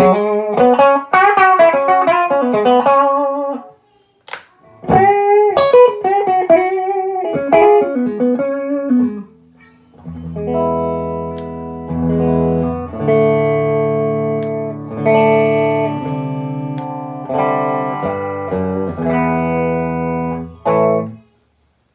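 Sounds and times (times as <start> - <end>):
electric guitar playing: 0.0 - 3.7, 4.6 - 9.4, 10.0 - 21.2.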